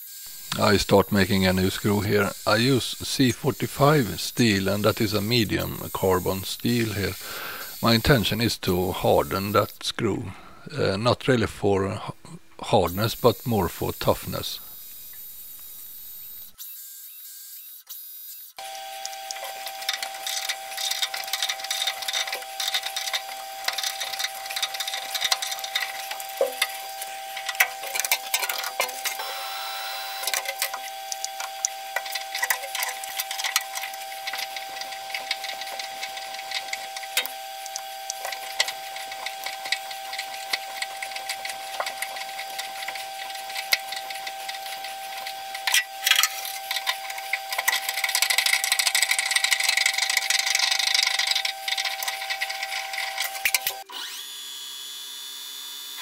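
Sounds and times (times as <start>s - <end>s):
metal lathe whine: 0.0s - 9.8s, 18.6s - 56.0s.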